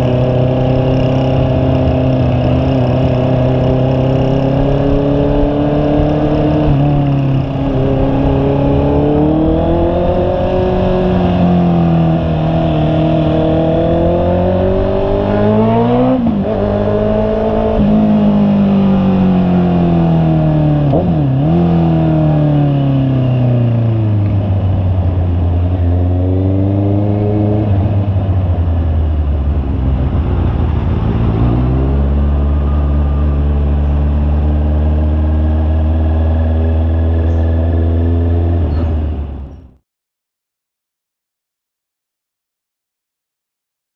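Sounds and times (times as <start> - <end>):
motorcycle engine revving: 0.0 - 39.8.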